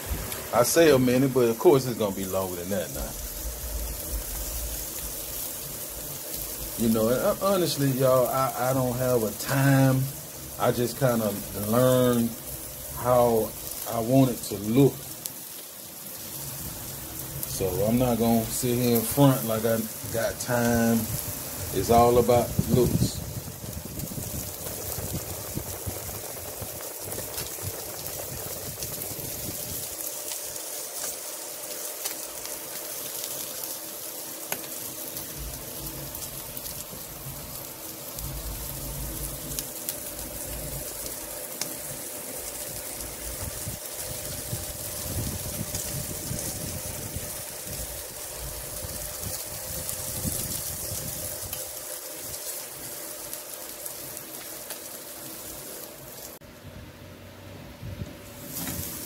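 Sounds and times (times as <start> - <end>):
fish sizzling on a grill: 0.0 - 56.4, 58.1 - 59.0
coals crackling: 0.0 - 56.6, 57.8 - 59.0.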